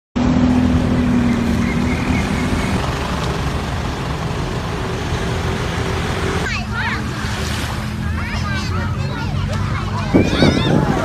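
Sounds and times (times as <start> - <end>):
cars driving past: 0.2 - 11.0
low engine hum: 0.2 - 11.0.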